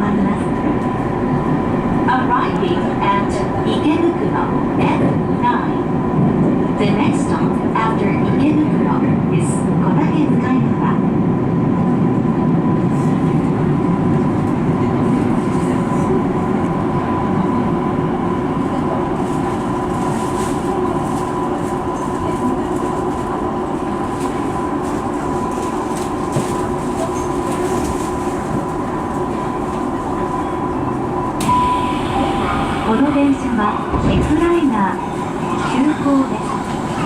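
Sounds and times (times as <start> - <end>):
train hum: 0.0 - 37.0
train wheels rumbling on rail: 0.0 - 37.0.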